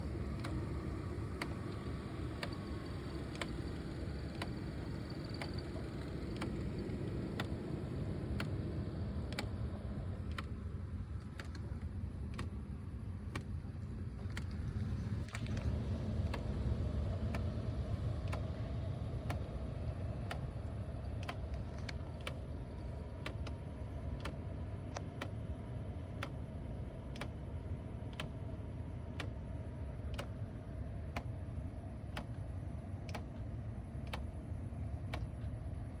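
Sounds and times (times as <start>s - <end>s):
regular ticking: 0.0s - 35.9s
steady low hum: 0.0s - 36.0s.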